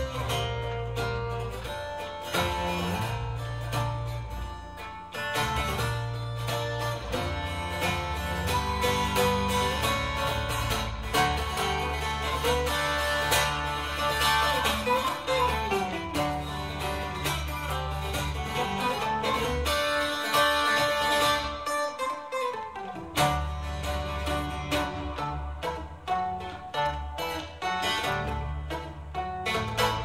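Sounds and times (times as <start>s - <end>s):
acoustic guitar plucked melody: 0.0s - 30.0s
low guitar bass notes: 0.0s - 30.0s.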